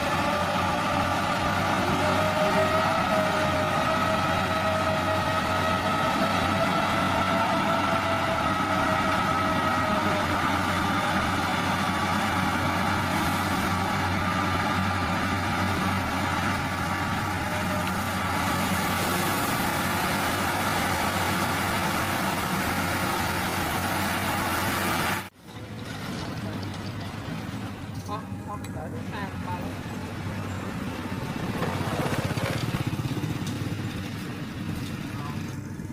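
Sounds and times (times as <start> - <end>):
heavy machinery engine running: 0.0 - 35.9.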